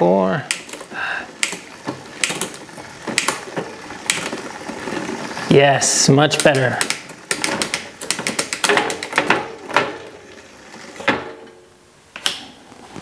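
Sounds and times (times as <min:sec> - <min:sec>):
bicycle chain clicking over cogs: 0:00.3 - 0:11.1.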